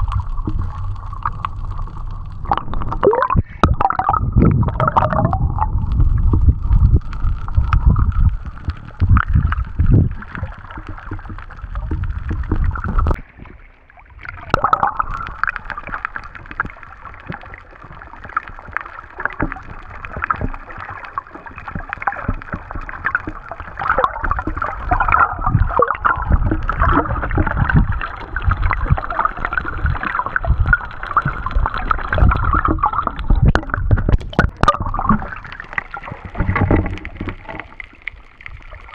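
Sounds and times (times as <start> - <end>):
low underwater rumbles: 0.0 - 38.9
muffled water sloshing: 0.0 - 38.9.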